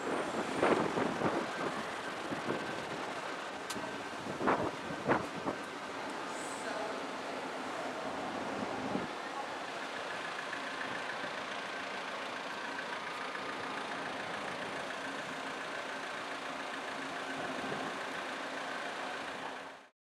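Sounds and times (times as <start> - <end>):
car engines idling: 0.0 - 19.9
street traffic hum: 0.0 - 19.9.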